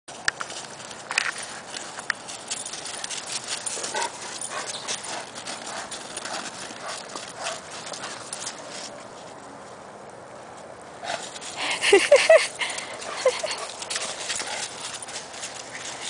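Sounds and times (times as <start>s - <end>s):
paws crunching on snow and leaves: 0.1s - 16.0s.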